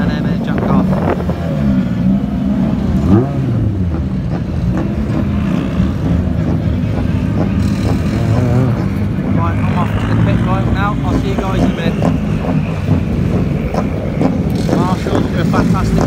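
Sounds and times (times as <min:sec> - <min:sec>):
race cars driving past: 0:00.0 - 0:16.0.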